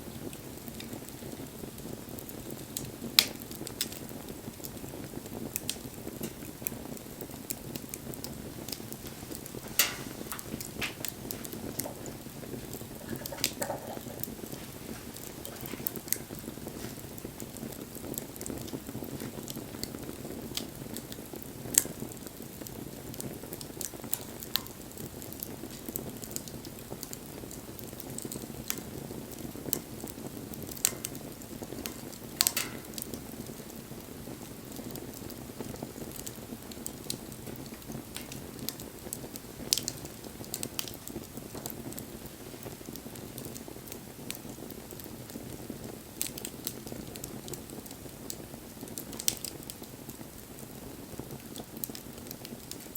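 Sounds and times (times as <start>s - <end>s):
fire crackling and popping: 0.0s - 52.9s
flames rushing: 0.0s - 52.9s.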